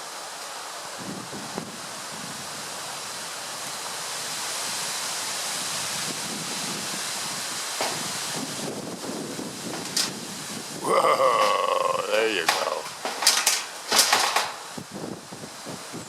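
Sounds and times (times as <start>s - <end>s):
strong wind gusting through trees: 0.0s - 16.0s.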